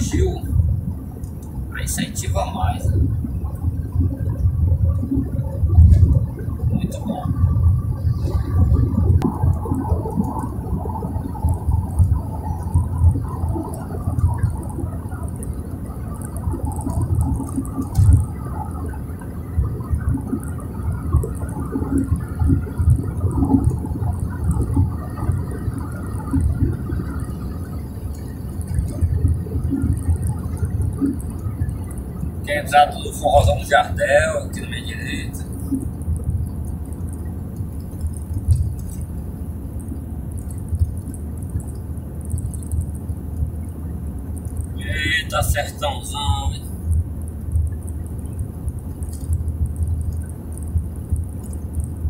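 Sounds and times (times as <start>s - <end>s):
car road and wind rumble: 0.0s - 52.0s.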